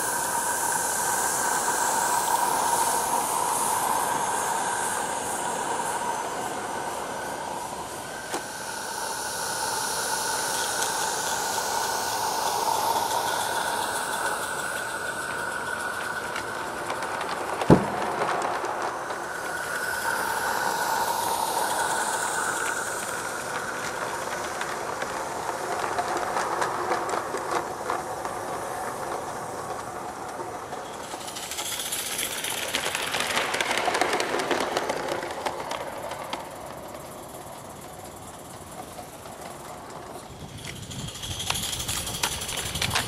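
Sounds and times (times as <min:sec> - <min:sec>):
model train wheels clicking: 0:00.0 - 0:43.0.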